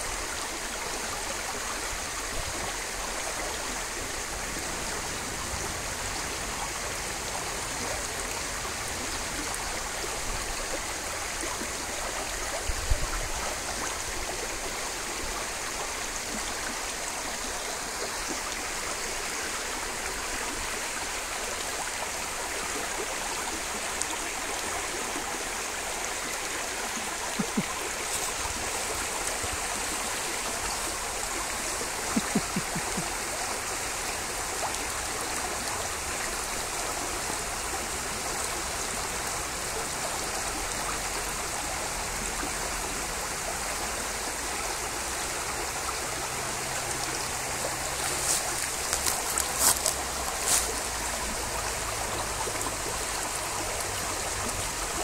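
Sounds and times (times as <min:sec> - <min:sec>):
creek water running over stones: 0:00.0 - 0:55.0.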